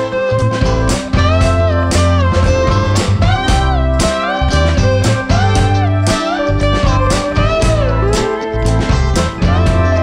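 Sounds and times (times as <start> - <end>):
plucked guitar chords: 0.0 - 10.0
sliding guitar melody: 0.0 - 10.0
steady bass: 0.0 - 10.0.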